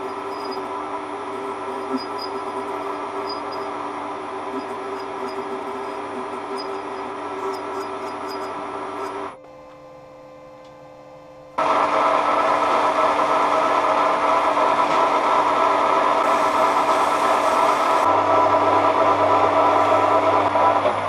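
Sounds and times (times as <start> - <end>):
metal lathe running: 0.0 - 9.4, 11.6 - 21.0.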